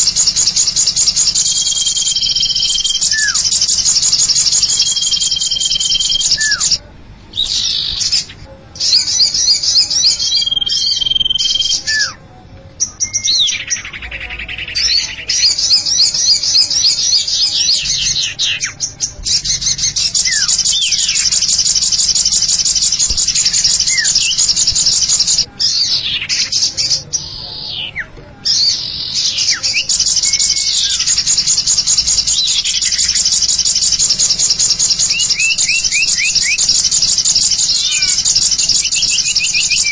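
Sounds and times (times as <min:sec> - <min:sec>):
downward-slurring bird whistles: 0:00.0 - 0:12.2, 0:12.8 - 0:39.9
buzzy bird trills and chattering: 0:00.0 - 0:39.9.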